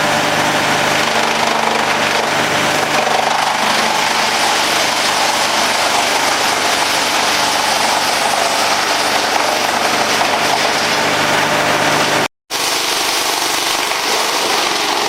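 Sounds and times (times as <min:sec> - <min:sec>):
wood chipper rushing noise: 0:00.0 - 0:15.0.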